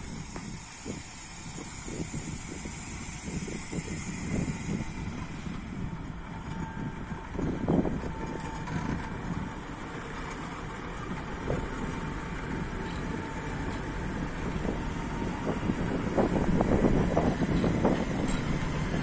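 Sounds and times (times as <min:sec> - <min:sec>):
diesel locomotive engines: 0:00.0 - 0:19.0
faint steady whine: 0:00.0 - 0:19.0
wheels rumbling on rails: 0:00.0 - 0:19.0.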